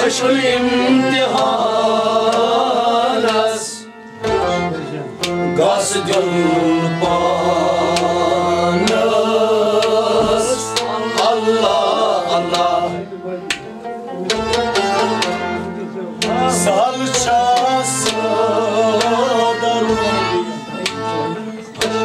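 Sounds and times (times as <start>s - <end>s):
men singing: 0.0s - 13.4s, 14.2s - 22.0s
bowed sarangi: 0.0s - 22.0s
harmonium: 0.0s - 22.0s
rabab: 0.0s - 22.0s.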